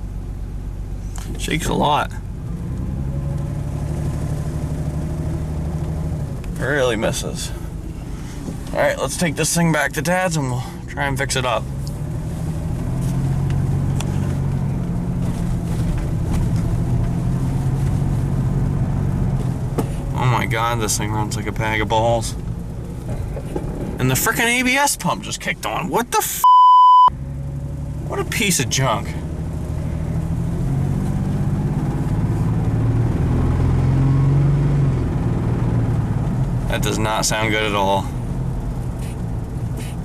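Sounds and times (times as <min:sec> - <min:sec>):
rough engine drone inside cab: 0:00.0 - 0:26.4, 0:27.0 - 0:40.0.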